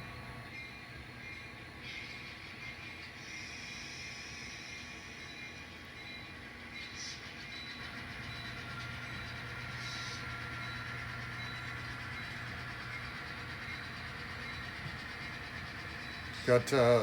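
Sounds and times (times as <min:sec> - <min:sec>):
model locomotive diesel drone: 0:00.0 - 0:17.0.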